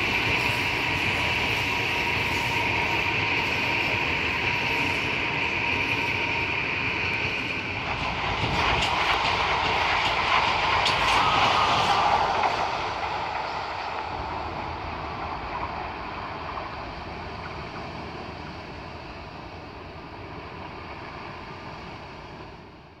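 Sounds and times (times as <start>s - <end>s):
passenger train rolling: 0.0s - 23.0s.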